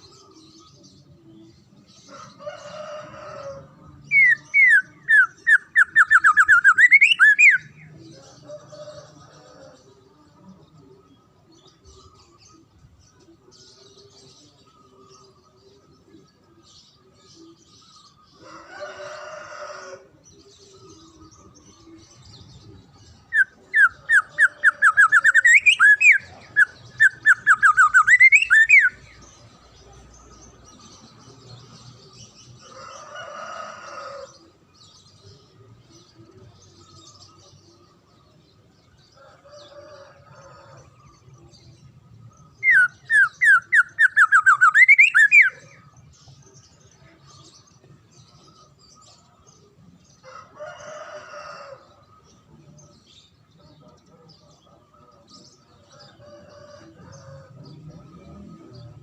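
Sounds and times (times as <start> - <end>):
songbird fast chirping song: 0.0 - 59.0
rough bird calls: 1.9 - 9.9, 11.2 - 35.3, 42.0 - 59.0.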